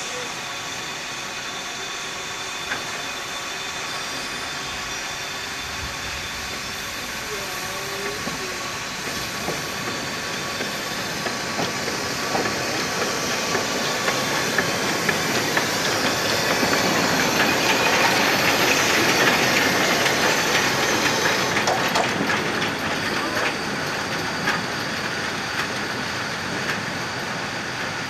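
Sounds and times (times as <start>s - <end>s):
steam hissing: 0.0s - 28.0s
wheels clicking on track: 0.0s - 28.0s.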